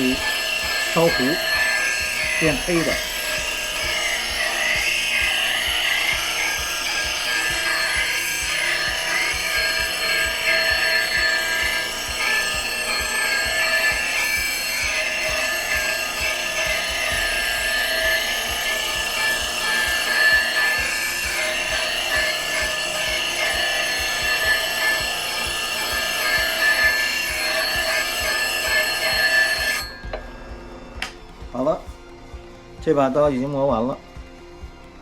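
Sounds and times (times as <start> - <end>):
grinder sharpening steel tool: 0.0 - 30.2
high ringing tone: 0.0 - 32.0.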